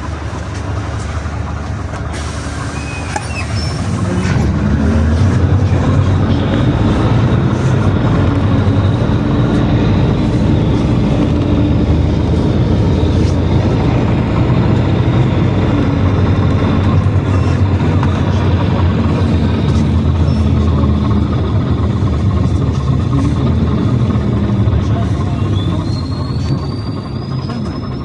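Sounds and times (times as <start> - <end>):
bus engine drone: 0.0 - 28.0
road and body noise: 0.0 - 28.0.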